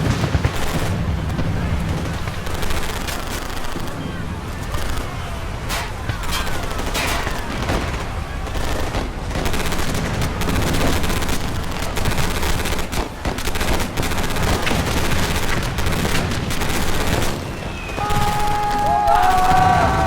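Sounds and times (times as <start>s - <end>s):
sharp cracks and bangs: 0.0s - 20.0s.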